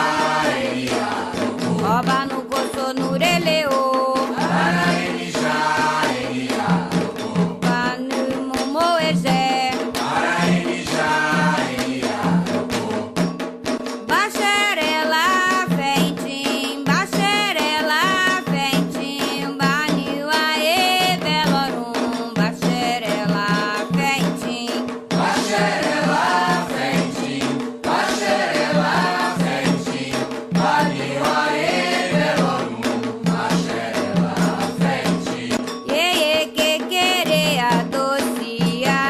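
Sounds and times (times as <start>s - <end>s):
voices singing a chant: 0.0s - 13.3s, 14.3s - 39.0s
hand drum percussion: 0.0s - 39.0s
rattle percussion: 0.0s - 39.0s.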